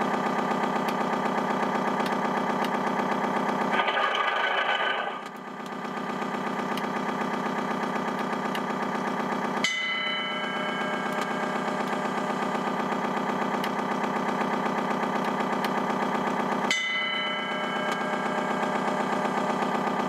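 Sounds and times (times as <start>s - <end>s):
simulated diesel engine idling: 0.0s - 20.0s.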